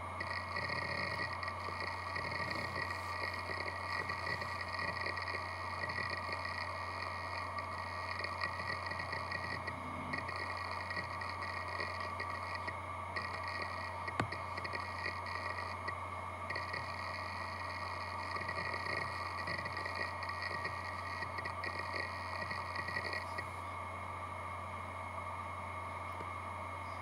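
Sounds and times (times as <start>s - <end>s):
flickering whir: 0.0s - 27.0s
low computer hum: 0.0s - 27.0s.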